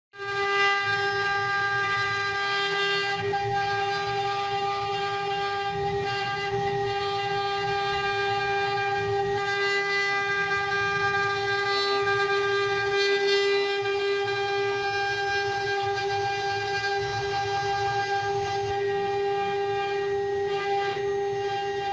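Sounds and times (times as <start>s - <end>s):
spindle whining: 0.2s - 21.9s.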